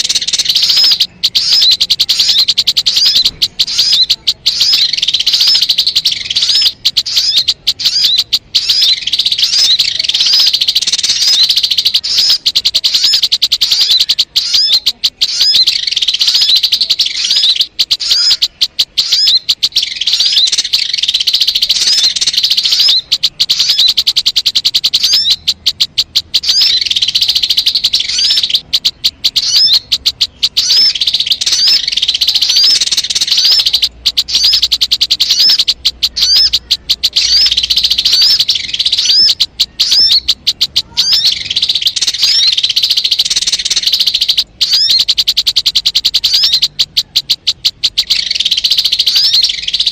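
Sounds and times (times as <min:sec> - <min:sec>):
fast chattering bird calls: 0:00.0 - 0:49.9.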